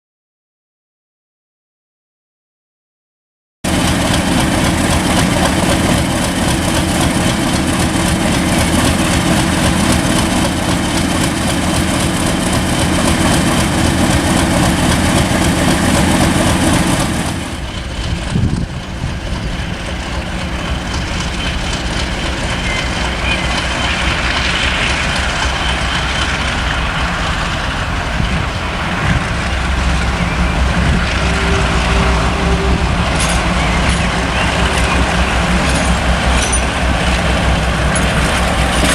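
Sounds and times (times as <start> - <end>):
diesel locomotive engine throbbing: 3.6 - 38.9.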